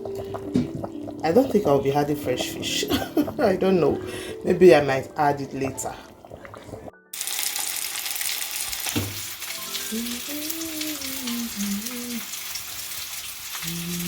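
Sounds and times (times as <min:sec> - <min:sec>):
soup sizzling in a pot: 0:00.0 - 0:14.0.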